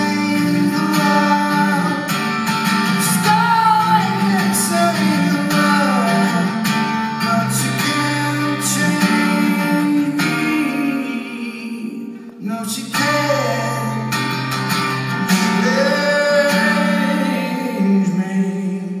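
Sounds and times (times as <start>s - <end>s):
man singing: 0.0s - 14.4s, 15.2s - 19.0s
acoustic guitar strumming: 0.0s - 19.0s.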